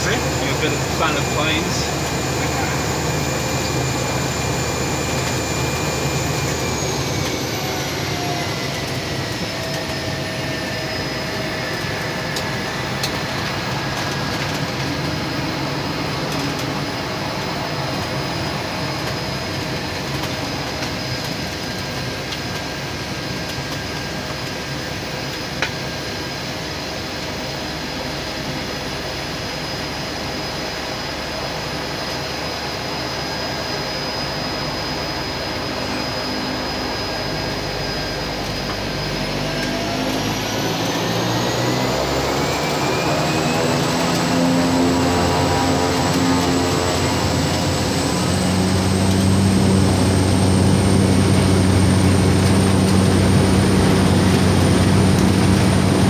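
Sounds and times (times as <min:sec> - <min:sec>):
turboprop engine drone and whine: 0:00.0 - 0:56.0.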